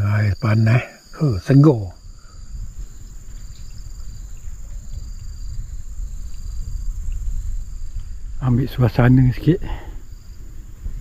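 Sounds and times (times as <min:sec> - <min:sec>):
high-pitched insect drone: 0:00.0 - 0:11.0
short insect call: 0:00.0 - 0:11.0
wind rumbling on microphone: 0:00.0 - 0:11.0.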